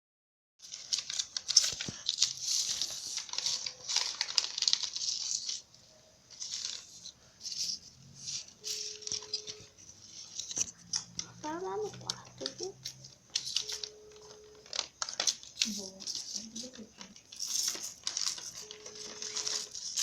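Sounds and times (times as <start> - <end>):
paper rustling and crinkling: 0.6 - 20.0.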